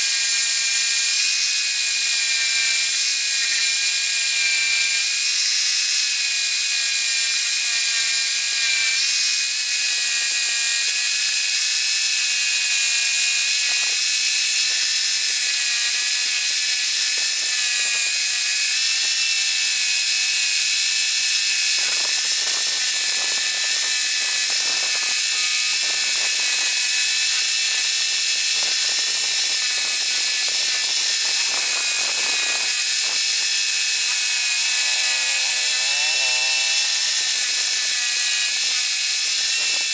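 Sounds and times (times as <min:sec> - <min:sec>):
scroll saw cutting wood: 0:00.0 - 0:39.9.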